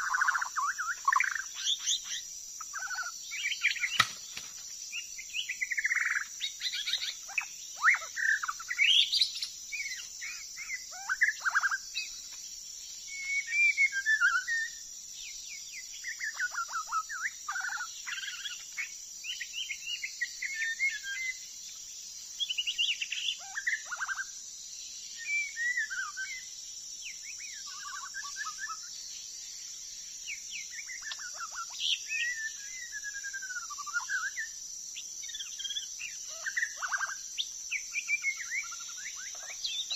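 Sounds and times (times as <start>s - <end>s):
songbird singing whistled phrases: 0.0s - 4.2s, 4.9s - 12.2s, 13.1s - 21.4s, 25.1s - 29.0s, 30.3s - 39.9s
high insect drone: 0.0s - 39.9s.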